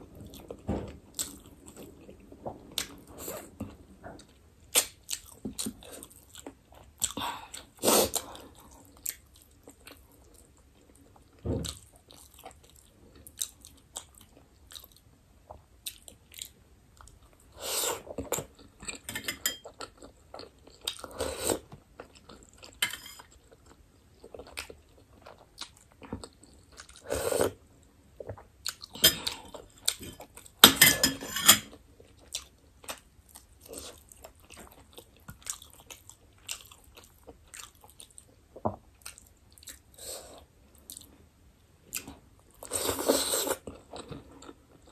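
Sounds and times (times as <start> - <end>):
person chewing food: 0.0 - 30.6, 31.6 - 41.2, 41.8 - 44.9.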